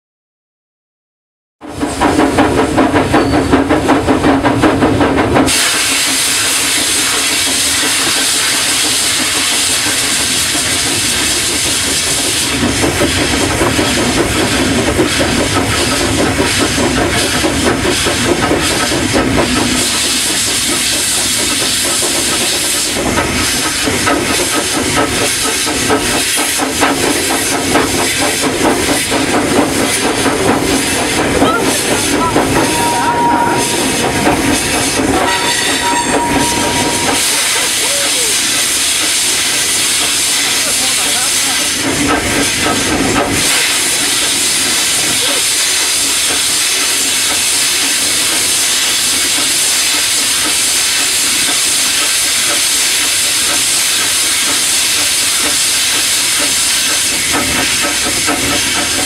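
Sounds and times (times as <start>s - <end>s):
rail noise: 1.6s - 59.0s
rhythmic locomotive exhaust beats: 1.6s - 59.0s
steam hissing: 5.4s - 59.0s.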